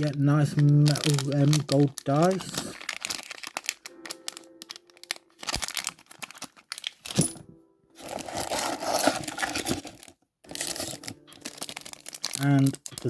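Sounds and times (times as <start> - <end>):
plastic packaging crinkling: 0.0 - 7.4, 8.0 - 13.0.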